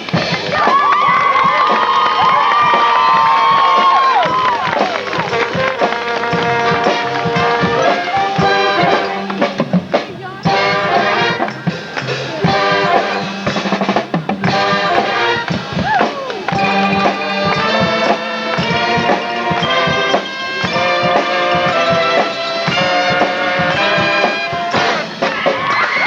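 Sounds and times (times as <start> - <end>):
brass and woodwind chords: 1.2 - 25.7.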